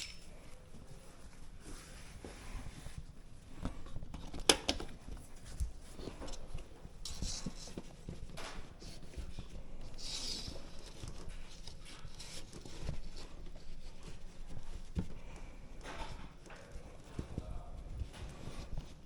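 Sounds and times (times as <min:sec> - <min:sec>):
scraping and rustling: 0:00.0 - 0:19.0.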